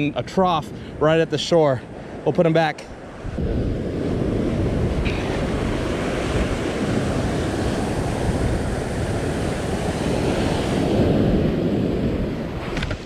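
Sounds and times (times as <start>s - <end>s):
wind buffeting microphone: 0.0s - 13.0s
small waves breaking on sand: 1.9s - 13.0s.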